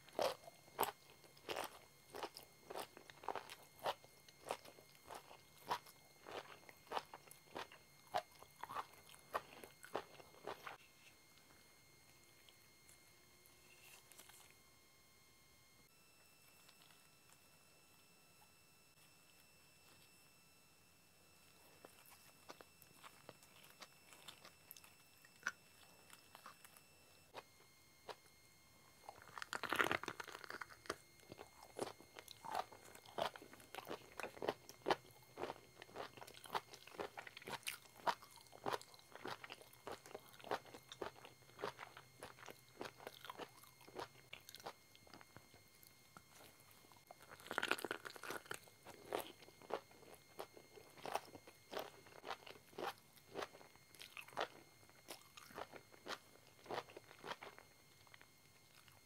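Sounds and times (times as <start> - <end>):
crunchy bites and chewing: 0.0 - 11.2, 12.3 - 14.6, 16.4 - 17.4, 21.7 - 28.3, 29.0 - 59.0.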